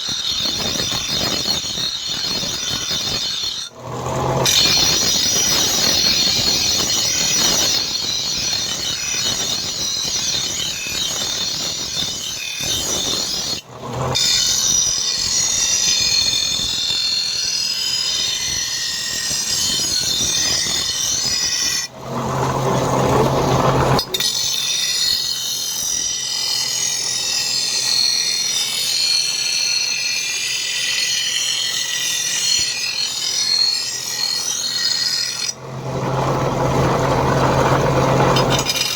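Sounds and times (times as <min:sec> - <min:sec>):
power grinder grinding steel: 0:00.0 - 0:38.9
steady motor hum: 0:00.0 - 0:38.9.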